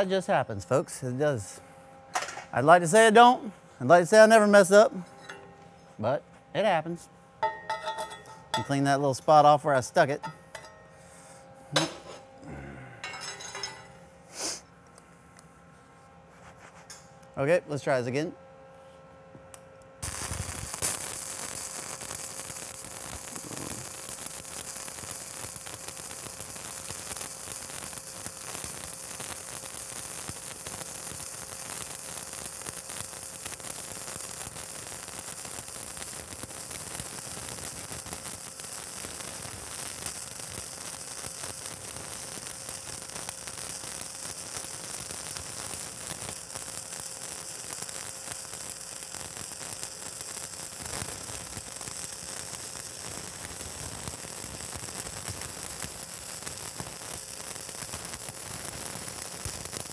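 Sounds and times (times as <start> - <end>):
welding arc crackling hiss: 0.0 - 5.4, 6.0 - 14.7, 20.0 - 59.9.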